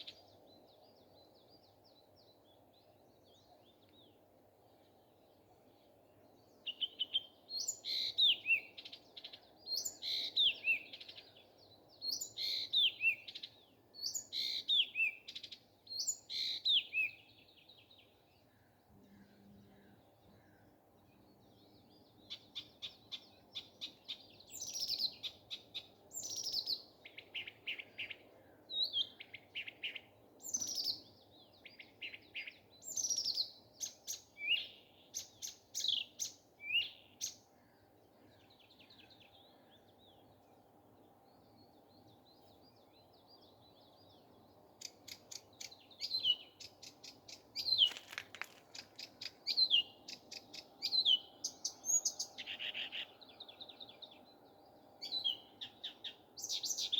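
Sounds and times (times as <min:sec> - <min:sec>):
nightingale singing: 0:06.2 - 0:18.3, 0:21.2 - 0:37.5, 0:38.3 - 0:56.9.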